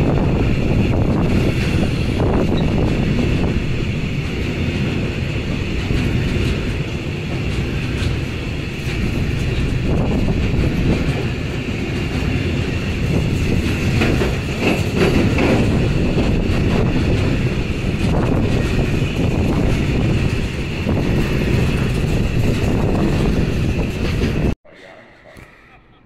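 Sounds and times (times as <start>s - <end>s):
train rumbling past: 0.0s - 25.3s.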